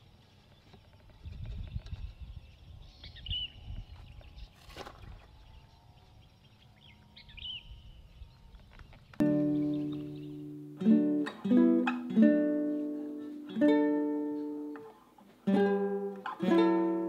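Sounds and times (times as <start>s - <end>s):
small birds chirping: 0.0s - 11.6s, 12.4s - 15.2s.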